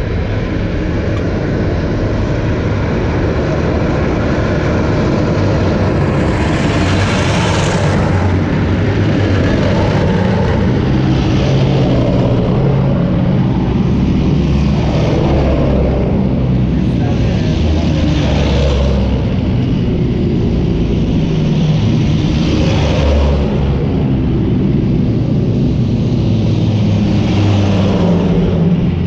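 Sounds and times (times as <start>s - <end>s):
track noise: 0.0s - 29.0s
tracked vehicle diesel engines: 0.0s - 29.0s.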